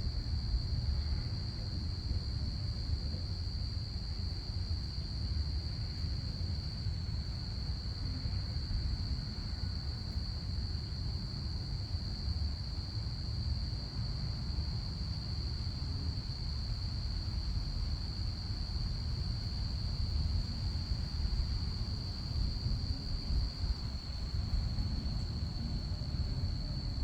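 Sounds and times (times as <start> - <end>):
constant low rumble: 0.0 - 27.0
crickets chirping: 0.0 - 27.0.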